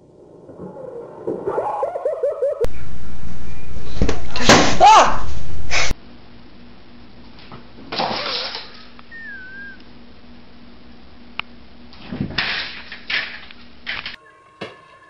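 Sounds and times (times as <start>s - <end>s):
steady low hum: 0.0s - 8.0s, 8.7s - 14.2s.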